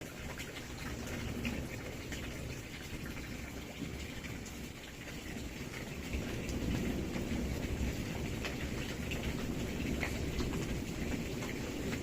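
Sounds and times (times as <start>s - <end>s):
rain falling: 0.0s - 12.0s
raindrops ticking on a surface: 0.0s - 12.0s.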